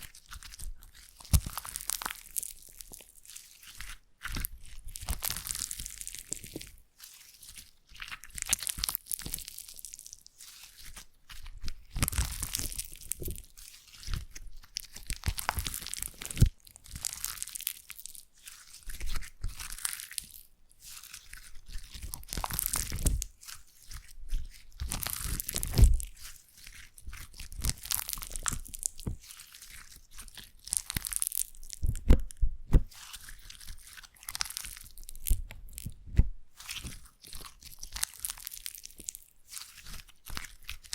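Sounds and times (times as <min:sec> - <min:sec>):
slime crackling and crunching: 0:00.0 - 0:40.9.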